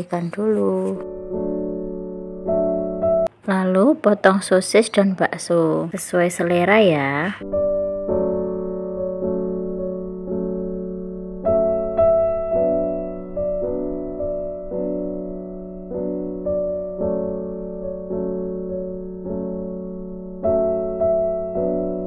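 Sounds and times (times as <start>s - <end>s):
slow gentle piano chords: 0.0s - 3.6s, 6.4s - 22.0s.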